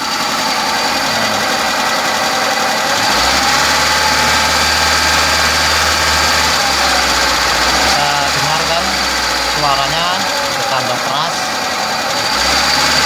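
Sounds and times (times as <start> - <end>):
petrol engine running and revving: 0.0 - 13.0.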